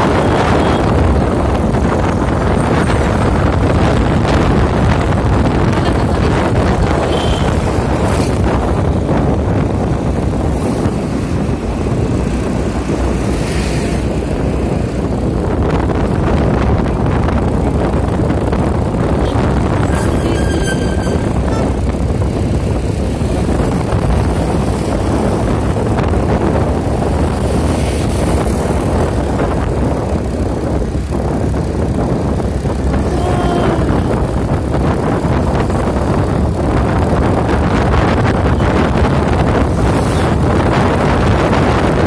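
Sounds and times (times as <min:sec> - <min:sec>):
vehicle travel rumble: 0:00.0 - 0:42.0
wind on microphone: 0:00.0 - 0:42.0.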